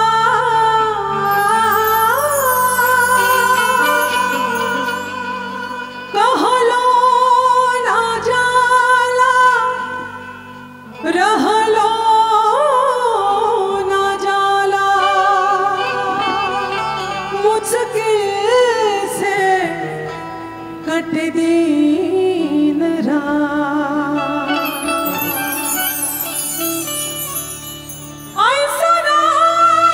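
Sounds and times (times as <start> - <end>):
woman singing into a microphone: 0.0 - 26.5, 28.2 - 29.9
musical backing: 0.0 - 29.9.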